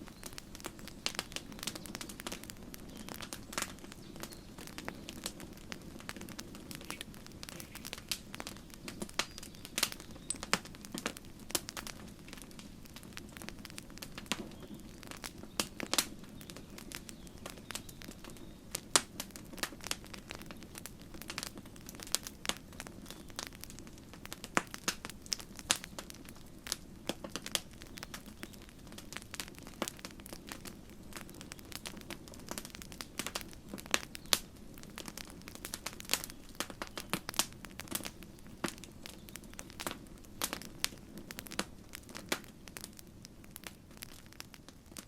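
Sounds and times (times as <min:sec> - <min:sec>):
burning wood popping: 0:00.0 - 0:45.0
steady low rush of fire: 0:00.0 - 0:45.0.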